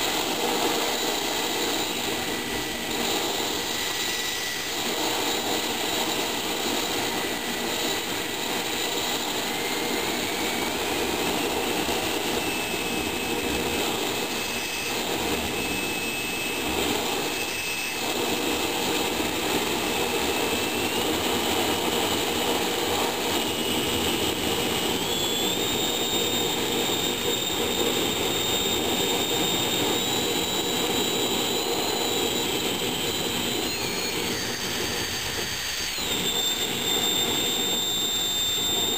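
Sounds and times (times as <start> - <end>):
oil burner roaring: 0.0 - 38.9
thin whistle rising in pitch: 0.6 - 38.9.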